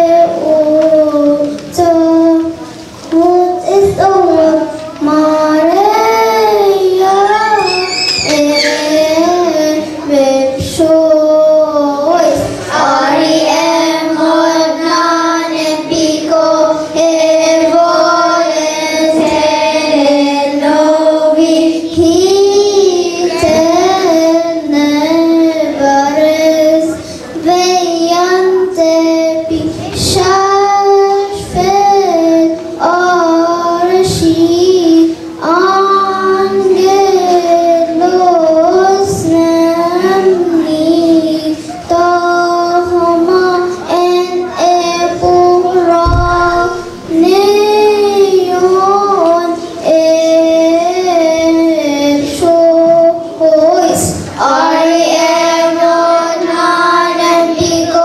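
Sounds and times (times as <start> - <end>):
children's choir singing a hymn: 0.0 - 58.0.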